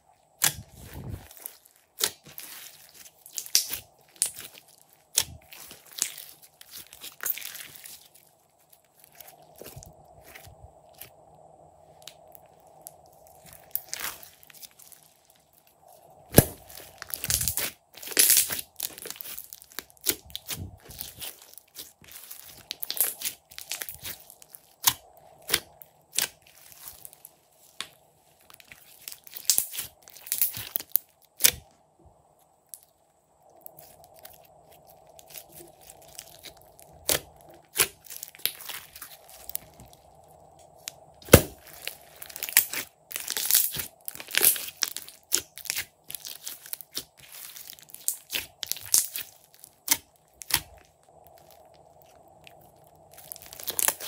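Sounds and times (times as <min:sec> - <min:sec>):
slime popping and crackling: 0:00.4 - 0:08.2, 0:12.0 - 0:15.7, 0:16.3 - 0:31.6, 0:33.7 - 0:40.0, 0:40.7 - 0:54.0.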